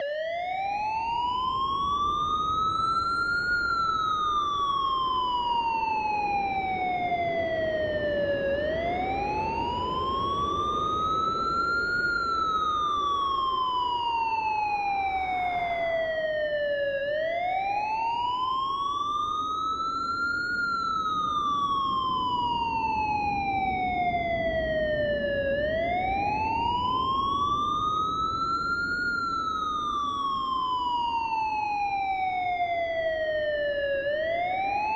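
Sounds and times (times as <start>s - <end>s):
siren wailing: 0.0s - 34.9s.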